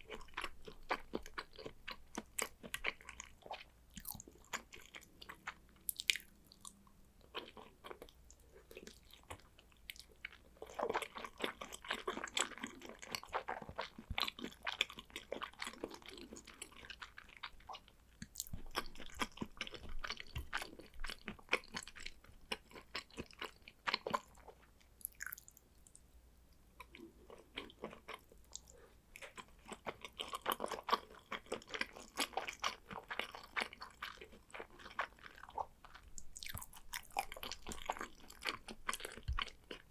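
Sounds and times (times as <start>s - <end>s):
person chewing sushi: 0.0s - 26.0s, 26.7s - 39.9s.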